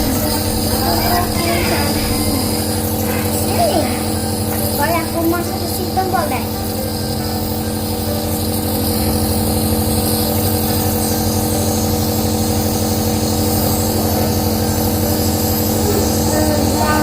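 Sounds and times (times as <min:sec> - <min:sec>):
nebulizer motor hum: 0:00.0 - 0:17.0.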